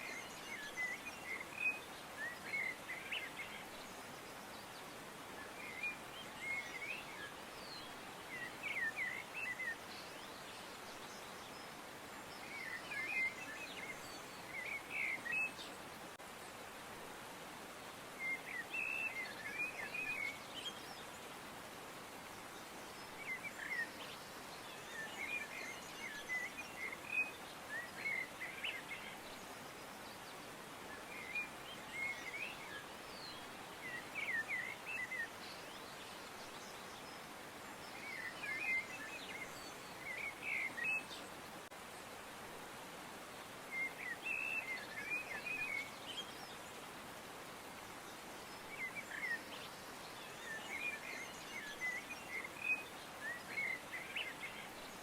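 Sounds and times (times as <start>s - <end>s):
outdoor background hiss: 0.0s - 55.0s
songbirds chirping: 0.0s - 55.0s.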